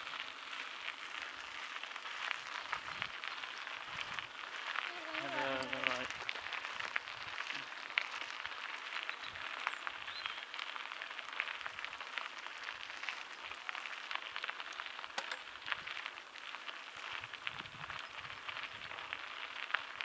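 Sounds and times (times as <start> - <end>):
bike tyres crackling on dirt: 0.0 - 20.0.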